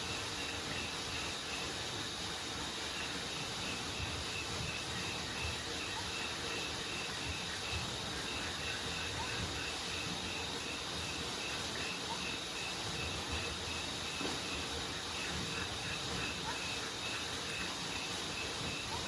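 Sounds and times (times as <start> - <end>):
insect pulsing call: 0.0 - 19.0
steady hiss: 0.0 - 19.0.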